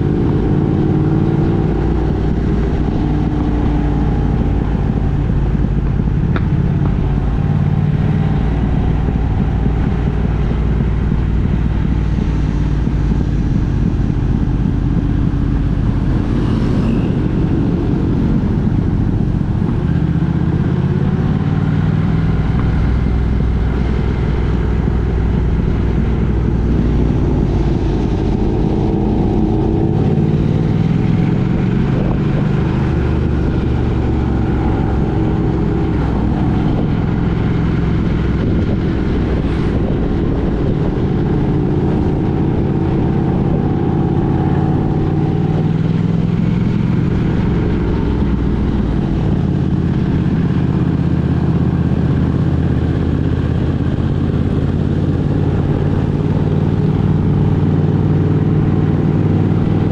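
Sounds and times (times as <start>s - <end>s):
road noise: 0.0s - 59.9s
vehicle engine driving: 0.0s - 59.9s.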